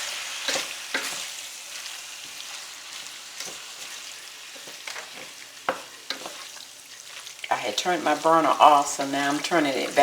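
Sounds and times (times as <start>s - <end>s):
spoon stirring food in skillet: 0.0s - 10.0s.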